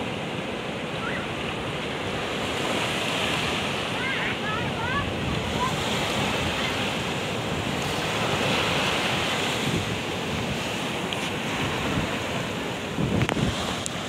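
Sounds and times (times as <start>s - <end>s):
small waves washing on sand: 0.0s - 14.0s
wind buffeting microphone: 0.0s - 14.0s.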